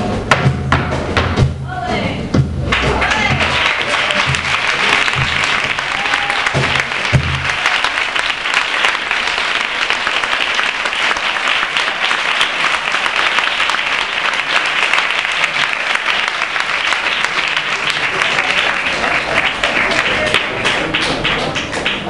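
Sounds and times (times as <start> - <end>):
audience applauding: 2.7 - 22.0.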